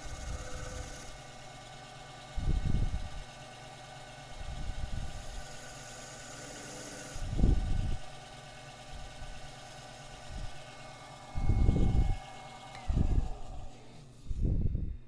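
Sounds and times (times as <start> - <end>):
lathe motor humming: 0.0 - 14.4.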